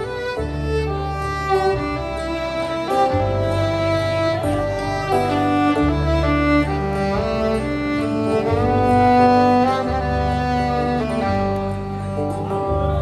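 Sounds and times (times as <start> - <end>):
fiddle melody: 0.0 - 13.0
sustained low bass notes: 0.0 - 13.0.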